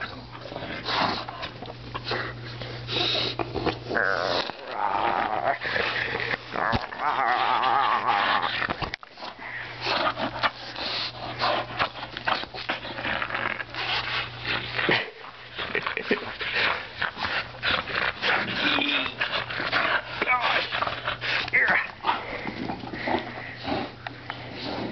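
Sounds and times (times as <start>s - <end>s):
dog breathy play noises: 0.0s - 4.6s, 7.6s - 24.9s.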